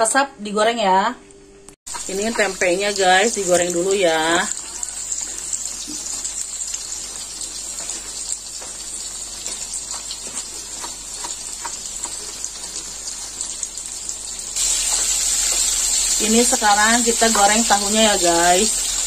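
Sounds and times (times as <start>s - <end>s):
food frying in hot oil: 1.9s - 19.0s
oil popping and crackling: 1.9s - 19.0s.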